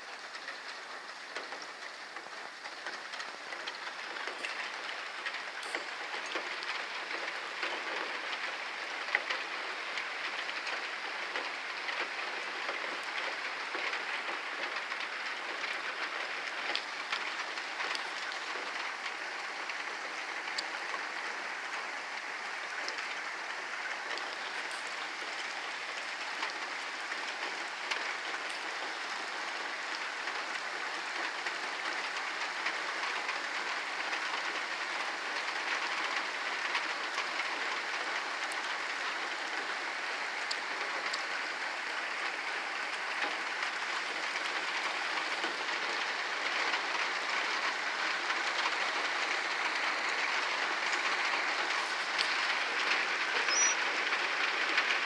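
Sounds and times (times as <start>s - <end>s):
heavy rain falling: 0.0s - 55.0s
sharp raindrop ticks: 0.0s - 55.0s.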